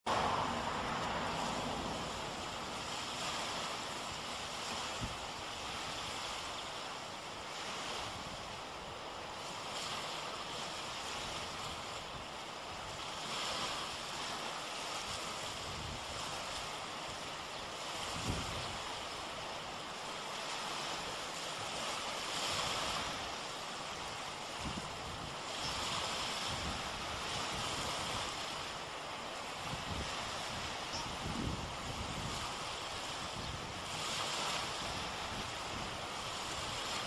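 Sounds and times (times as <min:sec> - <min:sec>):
small waves washing ashore: 0:00.0 - 0:37.0
wind on microphone: 0:00.1 - 0:37.0.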